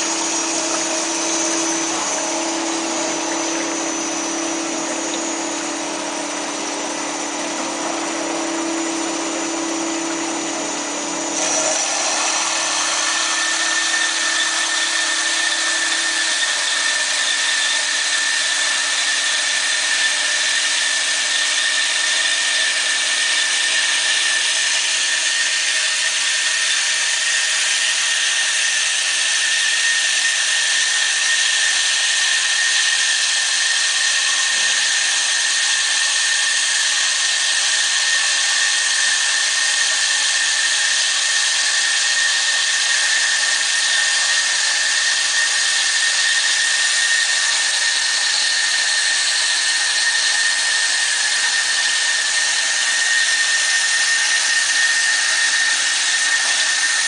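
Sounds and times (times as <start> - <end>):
band saw hissing and whining: 0.0 - 57.0.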